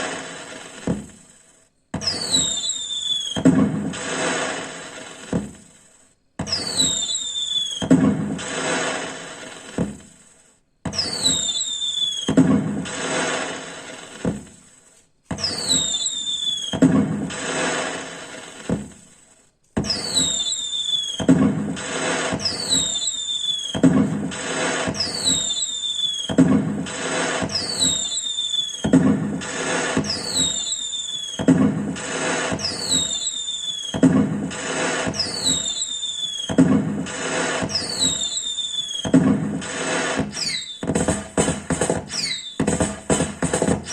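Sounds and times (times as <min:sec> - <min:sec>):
firecracker whistle and crackling bangs: 0:00.0 - 0:43.9.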